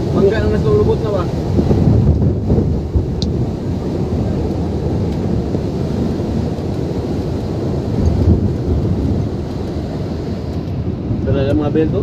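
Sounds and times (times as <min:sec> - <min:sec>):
strong wind rumbling: 0:00.0 - 0:12.0
wind buffeting microphone: 0:00.0 - 0:12.0.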